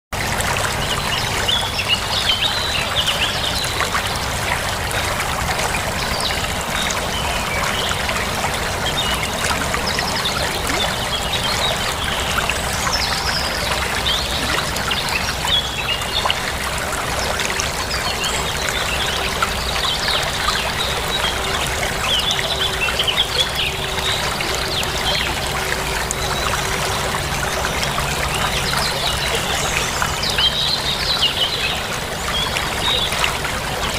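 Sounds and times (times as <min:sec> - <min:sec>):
water trickling and flowing: 0:00.2 - 0:33.9.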